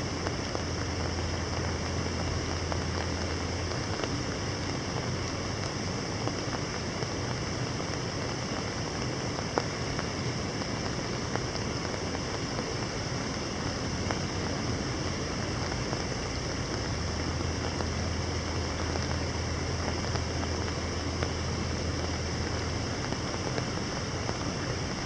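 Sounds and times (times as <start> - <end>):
distant city hum: 0.0 - 25.0
rain falling on water: 0.0 - 25.0.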